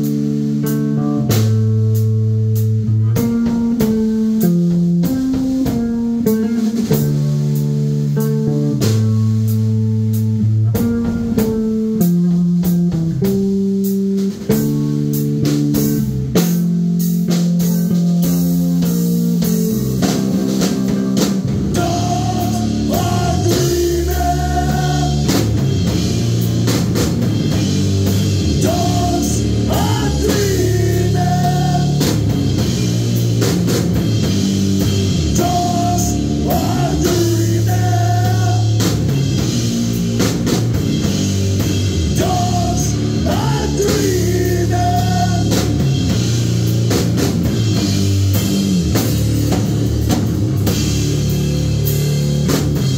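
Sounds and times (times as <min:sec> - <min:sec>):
drum kit playing: 0:00.0 - 0:52.9
electric bass guitar: 0:00.0 - 0:52.9.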